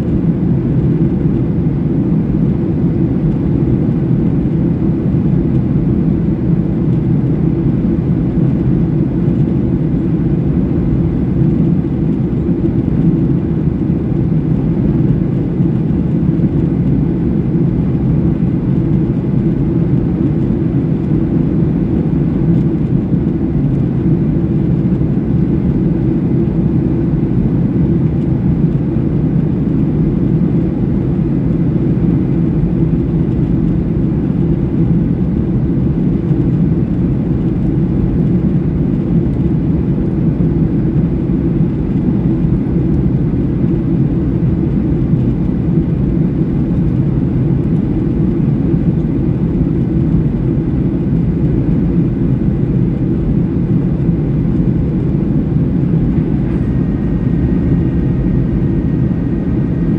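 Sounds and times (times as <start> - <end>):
airliner cabin jet roar: 0.0 - 59.9.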